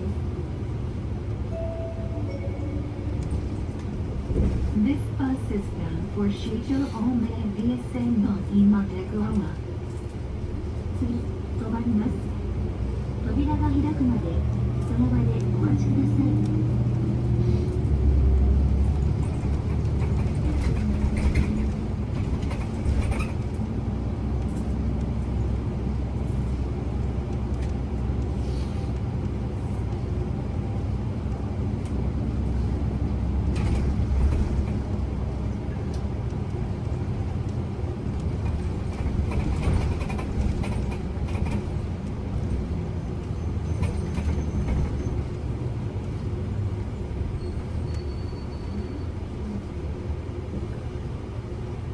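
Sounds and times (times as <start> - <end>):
bus engine humming: 0.0 - 51.9
road noise: 0.0 - 51.9.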